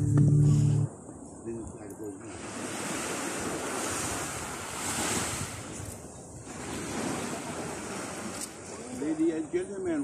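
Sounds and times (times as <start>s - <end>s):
wind buffeting microphone: 0.0s - 10.0s
waves washing onto beach: 0.9s - 10.0s.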